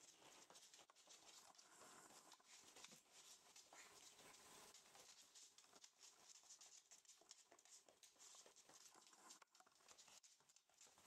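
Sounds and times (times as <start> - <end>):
puppy paws clicking on floor: 0.0 - 11.0.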